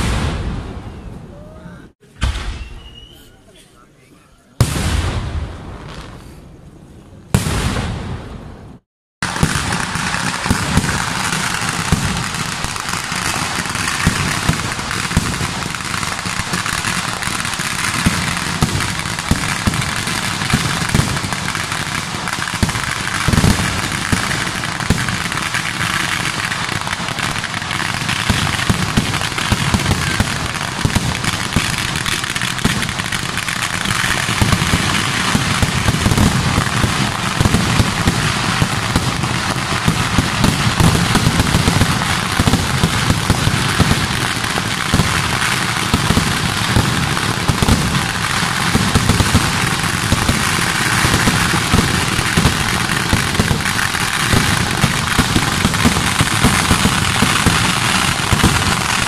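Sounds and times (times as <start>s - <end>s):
fireworks crackling and banging: 0.0s - 1.2s, 2.0s - 3.6s, 4.6s - 59.0s.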